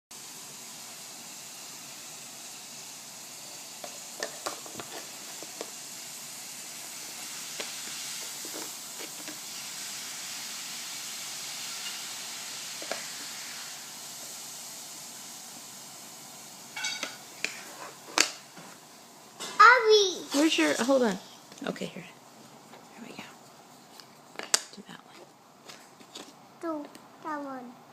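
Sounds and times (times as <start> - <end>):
background hiss: 0.1 - 27.9.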